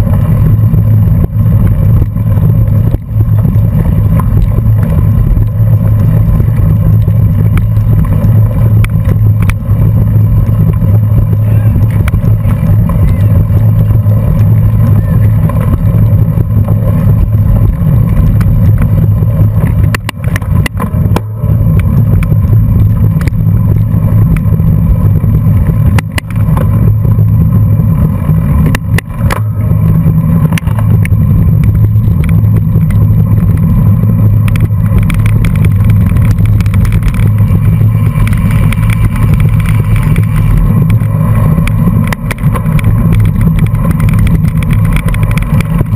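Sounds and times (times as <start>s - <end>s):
wind and road noise rumble: 0.0s - 45.9s.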